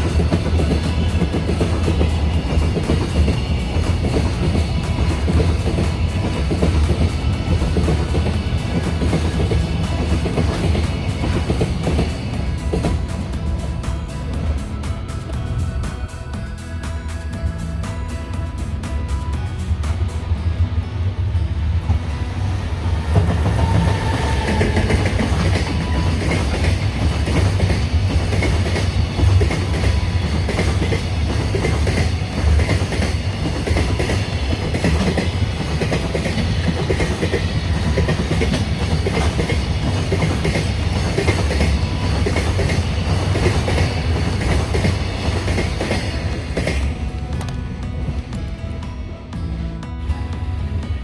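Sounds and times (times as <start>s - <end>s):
freight train rumbling on rails: 0.0s - 51.0s.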